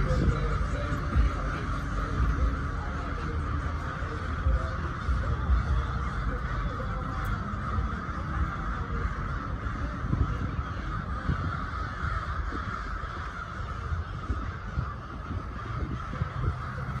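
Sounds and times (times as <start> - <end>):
flock of crows cawing: 0.0 - 17.0
steady low rumble: 0.0 - 17.0.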